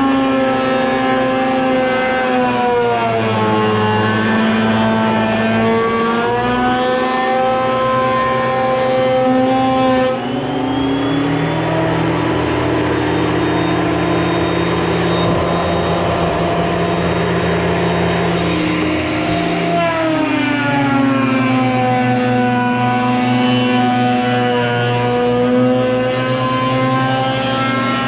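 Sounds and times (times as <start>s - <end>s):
thickness planer cutting wood: 0.0s - 28.0s.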